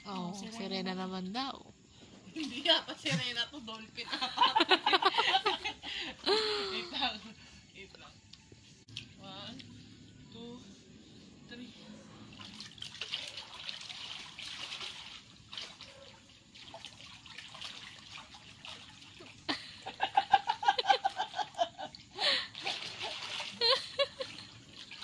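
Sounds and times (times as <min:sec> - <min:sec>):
water splashing and trickling: 0:00.0 - 0:10.6, 0:11.9 - 0:25.0.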